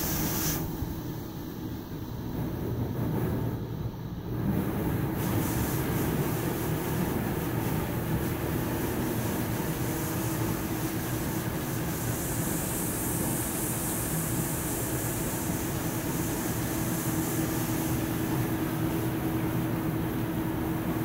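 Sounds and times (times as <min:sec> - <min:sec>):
machinery hiss: 0:00.0 - 0:21.0.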